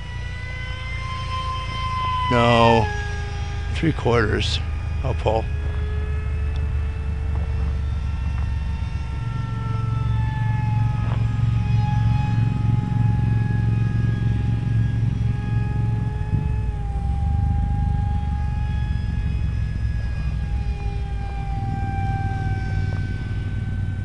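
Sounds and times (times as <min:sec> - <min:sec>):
electric motor propeller whining: 0:00.0 - 0:24.0
low rumble: 0:00.0 - 0:24.0.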